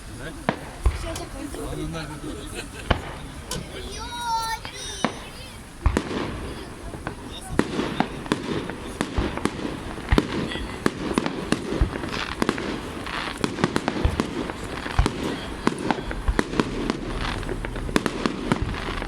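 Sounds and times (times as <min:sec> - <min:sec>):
fireworks bangs and cracks: 0:00.0 - 0:19.0
rumble of fireworks bursts: 0:00.0 - 0:19.0.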